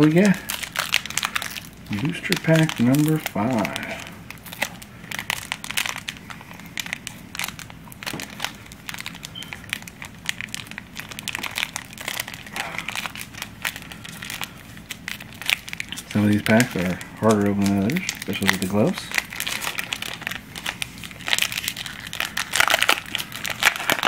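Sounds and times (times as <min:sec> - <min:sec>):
wrapper crinkling: 0:00.0 - 0:24.0.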